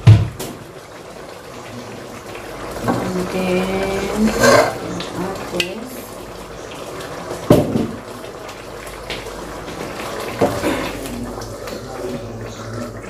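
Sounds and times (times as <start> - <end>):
sauce simmering and bubbling: 0.0 - 13.0.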